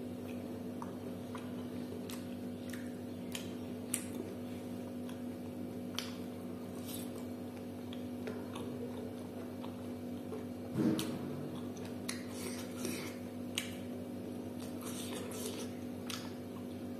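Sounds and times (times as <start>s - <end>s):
low background hum: 0.0s - 16.9s
person chewing: 0.1s - 16.9s.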